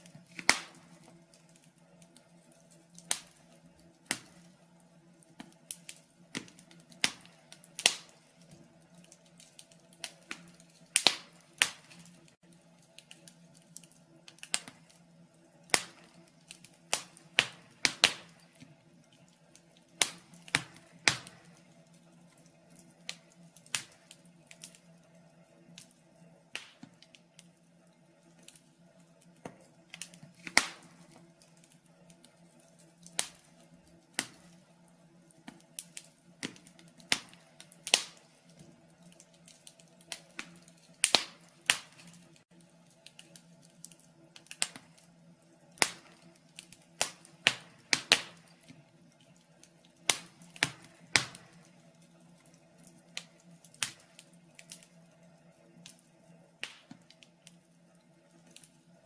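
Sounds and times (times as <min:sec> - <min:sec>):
faint steady hum: 0:00.0 - 0:59.0
wood fire crackling and popping: 0:00.0 - 0:59.0.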